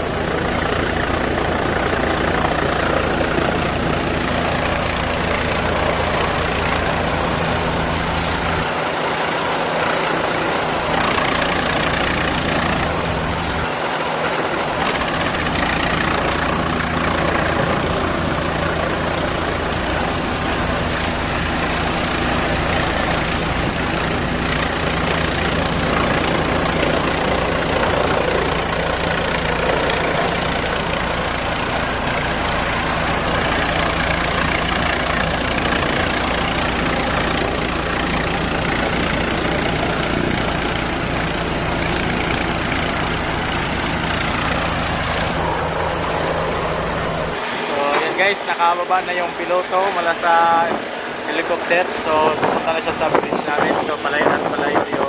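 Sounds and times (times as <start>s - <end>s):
helicopter hovering: 0.0s - 55.0s.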